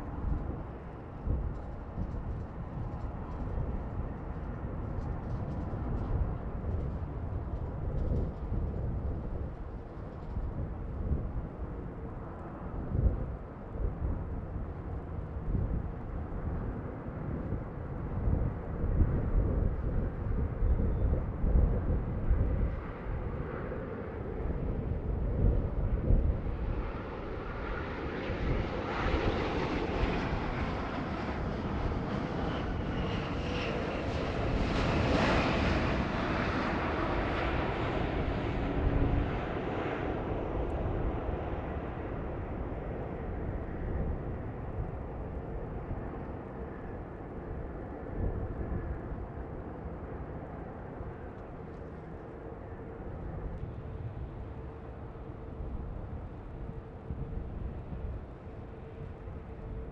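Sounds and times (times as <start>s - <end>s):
jet engines of passing airliner: 0.0s - 59.9s
wind buffeting microphone: 0.0s - 59.9s.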